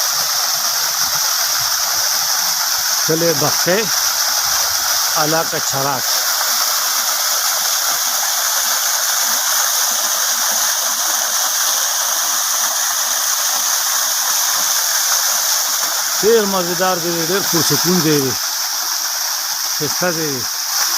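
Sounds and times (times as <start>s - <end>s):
waterfall rushing hiss: 0.0s - 20.9s.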